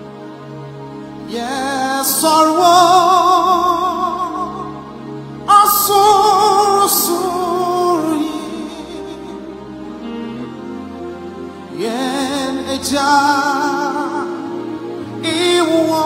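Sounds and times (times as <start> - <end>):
soft sustained accompaniment: 0.0 - 16.0
person singing with vibrato: 1.3 - 16.0.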